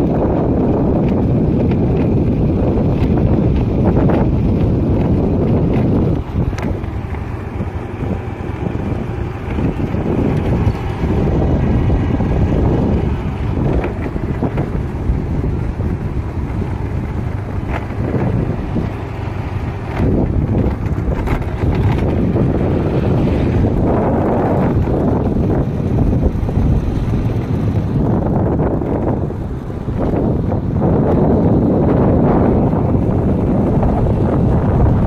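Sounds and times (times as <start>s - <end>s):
vehicle road noise: 0.0s - 35.0s
wind buffeting microphone: 0.0s - 35.0s.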